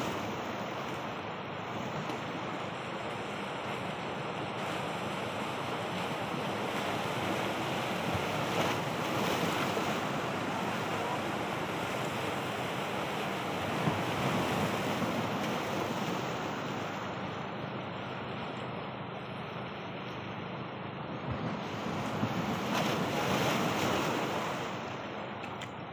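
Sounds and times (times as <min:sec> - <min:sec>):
surf washing against boulders: 0:00.0 - 0:17.2, 0:21.2 - 0:25.4.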